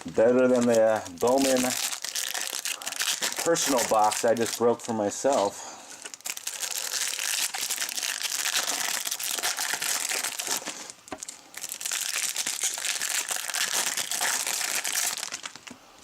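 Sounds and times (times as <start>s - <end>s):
card pack wrappers crinkling: 0.0s - 15.8s.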